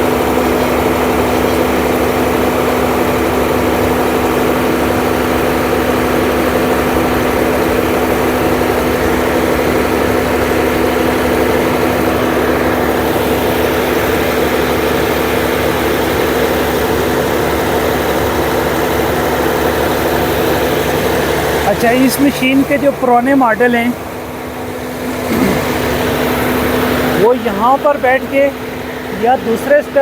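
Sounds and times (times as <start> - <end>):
heavy diesel engines humming: 0.0 - 30.0.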